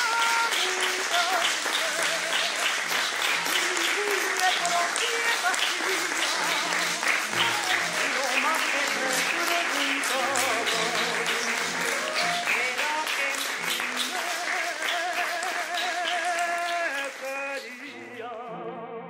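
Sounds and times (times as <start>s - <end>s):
audience applause: 0.0s - 18.1s.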